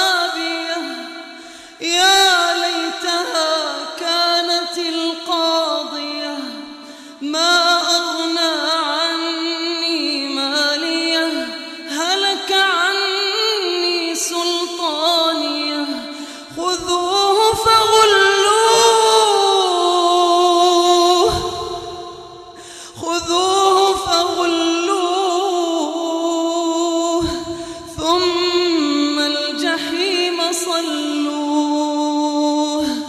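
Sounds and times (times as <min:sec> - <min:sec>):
man chanting recitation: 0:00.0 - 0:01.2, 0:01.8 - 0:21.8, 0:23.0 - 0:33.0.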